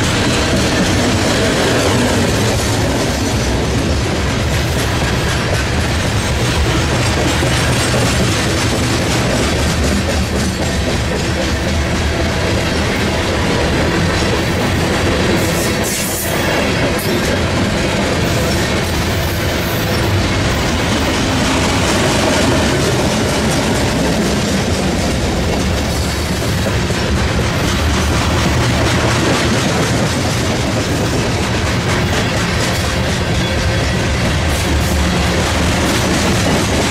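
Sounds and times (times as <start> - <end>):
freight train rolling past: 0.0 - 36.9.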